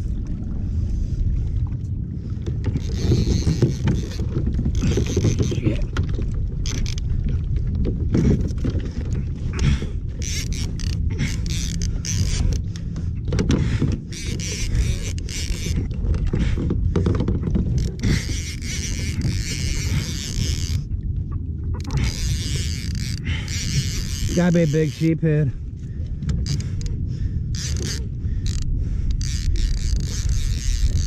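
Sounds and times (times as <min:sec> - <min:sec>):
wind rumbling on microphone: 0:00.0 - 0:31.0
fishing reel clicking and whirring: 0:02.6 - 0:07.1, 0:08.1 - 0:20.9, 0:21.8 - 0:25.5, 0:26.3 - 0:31.0.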